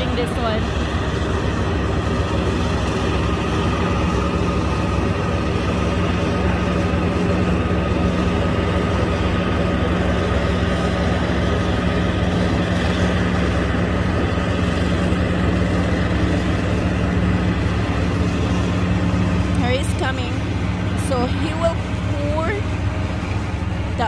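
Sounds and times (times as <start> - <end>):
engine droning steadily: 0.0 - 24.0.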